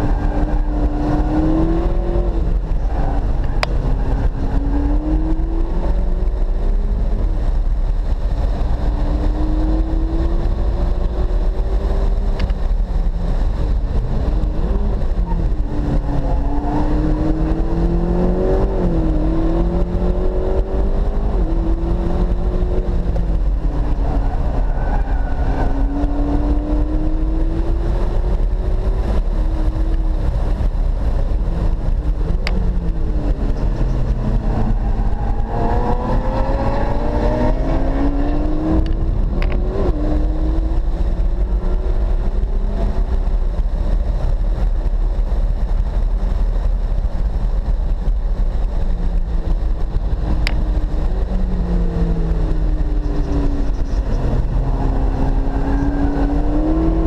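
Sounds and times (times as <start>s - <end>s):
sports car engine accelerating: 0.0s - 57.0s.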